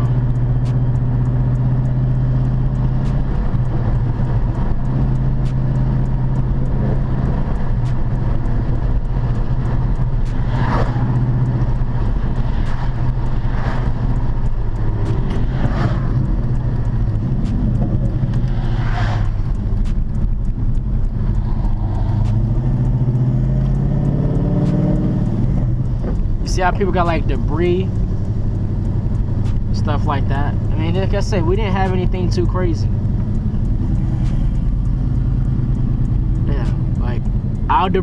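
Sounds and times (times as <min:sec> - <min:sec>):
car engine drone: 0:00.0 - 0:38.0.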